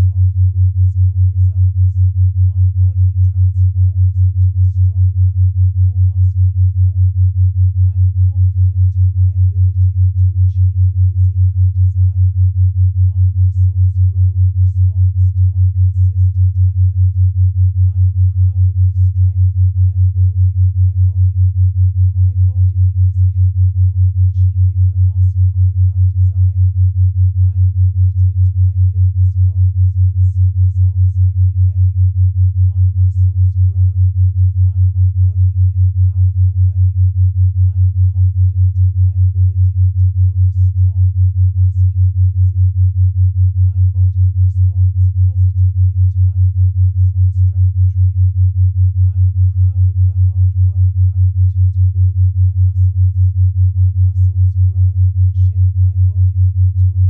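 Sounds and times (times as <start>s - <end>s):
pulsing low pure tone: 0.0s - 57.0s.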